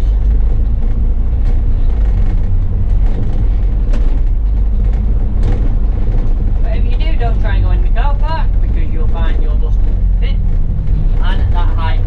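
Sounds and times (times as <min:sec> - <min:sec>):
bus engine rumble: 0:00.0 - 0:12.0
faint knocks and rattles: 0:00.0 - 0:12.0.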